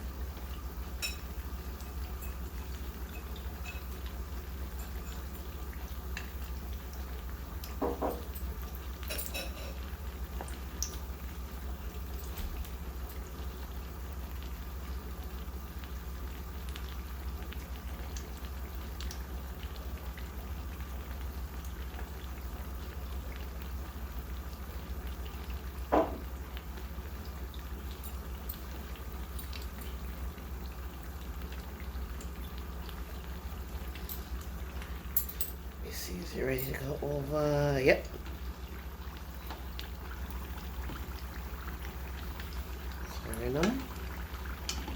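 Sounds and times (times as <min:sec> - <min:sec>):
food deep-frying in hot oil: 0:00.0 - 0:44.9.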